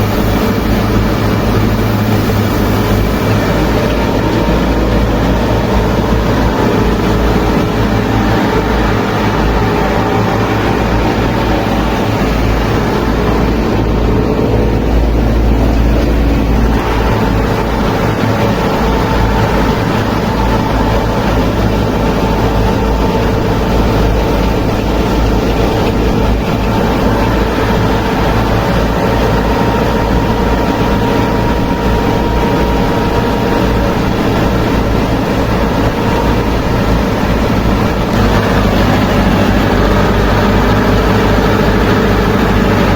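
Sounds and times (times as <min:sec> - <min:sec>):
mini tractor running: 0:00.0 - 0:42.9.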